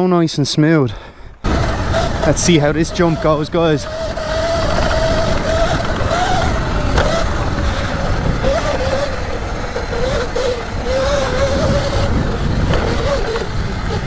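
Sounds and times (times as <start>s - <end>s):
electric motor whining: 1.4s - 14.0s
wind rumble on microphone: 1.4s - 14.0s.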